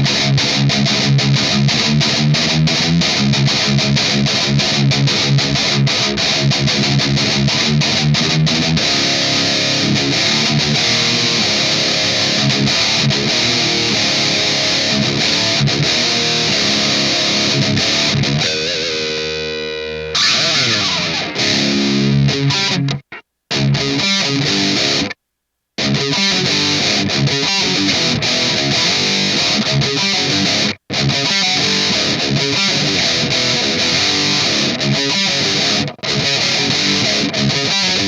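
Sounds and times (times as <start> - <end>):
distorted electric guitar: 0.0 - 38.0.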